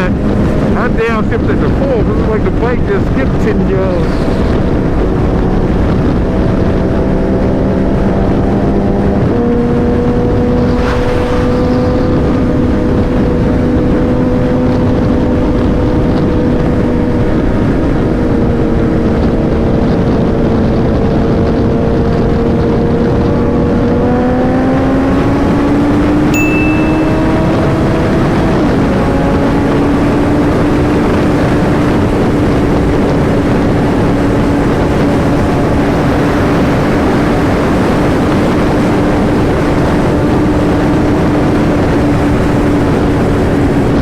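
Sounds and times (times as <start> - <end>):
loud wind noise: 0.0 - 44.0.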